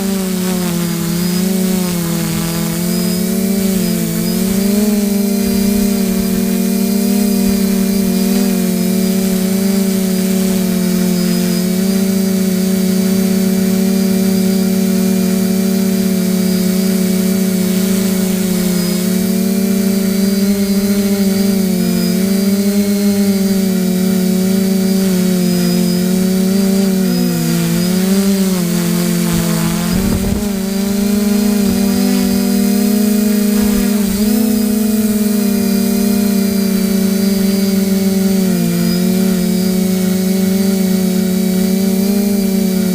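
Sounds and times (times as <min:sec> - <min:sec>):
steady motor hum: 0:00.0 - 0:42.9.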